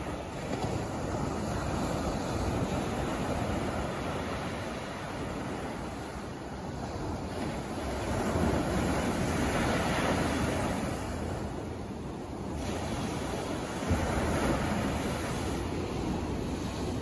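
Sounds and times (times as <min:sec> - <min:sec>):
small waves breaking on beach: 0:00.0 - 0:17.0
wind rumble on microphone: 0:00.0 - 0:17.0.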